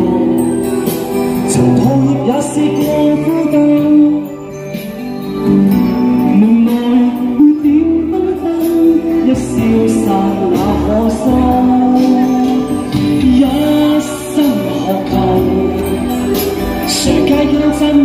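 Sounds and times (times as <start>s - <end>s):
instrumental backing track: 0.0s - 18.0s
person singing pop ballad: 0.0s - 18.0s.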